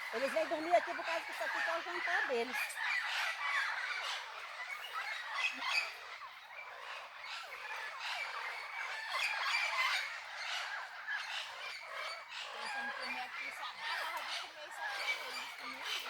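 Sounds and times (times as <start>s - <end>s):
parrots squawking and chattering: 0.0s - 16.0s.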